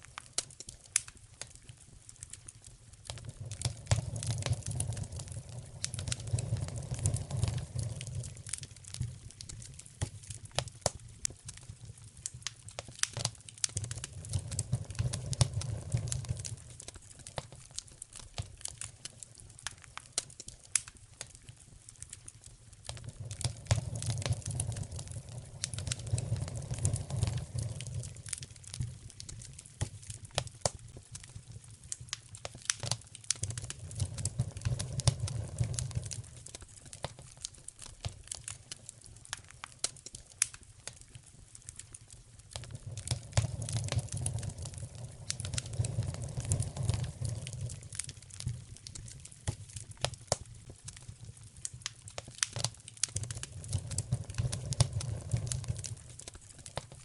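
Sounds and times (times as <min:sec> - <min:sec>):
flames rumbling: 0:00.0 - 0:57.0
wood fire crackling and popping: 0:00.0 - 0:57.0.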